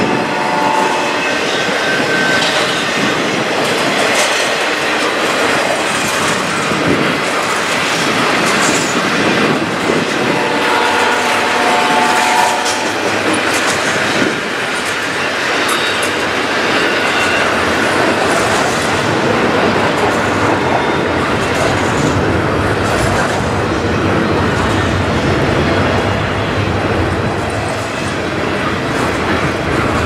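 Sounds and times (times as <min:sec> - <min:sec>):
rail clicks: 0:00.0 - 0:30.0
train wheels rumbling on rails: 0:00.0 - 0:30.0.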